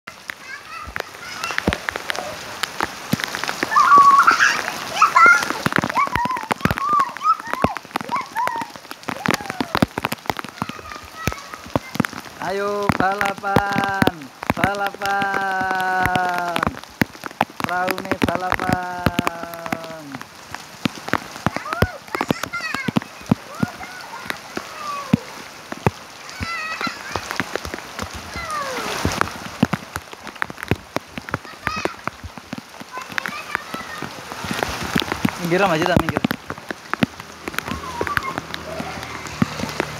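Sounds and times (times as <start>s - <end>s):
light rain hiss: 0.1s - 39.9s
rain drops pattering on surface: 0.1s - 39.9s.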